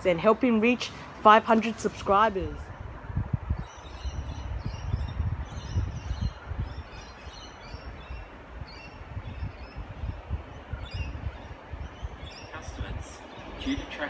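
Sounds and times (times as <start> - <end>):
low gusty rumble: 0.0 - 14.0
small birds chirping: 2.4 - 14.0.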